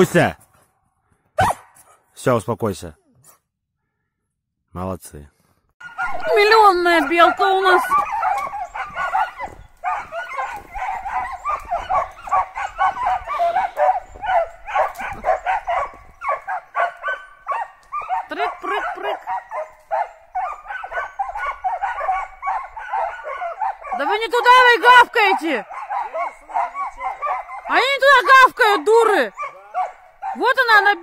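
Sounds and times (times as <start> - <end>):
hunting dogs barking: 5.8 - 31.0.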